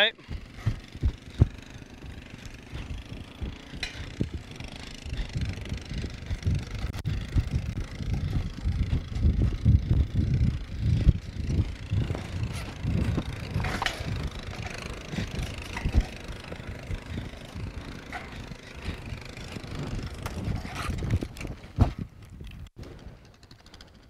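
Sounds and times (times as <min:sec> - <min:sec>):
atv engine running: 0:00.0 - 0:22.1
wind buffeting microphone: 0:00.0 - 0:23.6
horse hooves thudding: 0:00.2 - 0:23.0.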